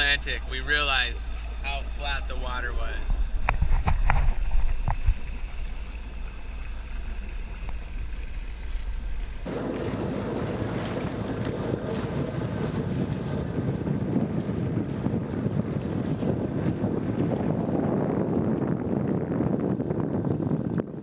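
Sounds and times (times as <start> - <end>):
water rushing past hull: 0.0 - 21.0
wind buffeting microphone: 0.0 - 21.0.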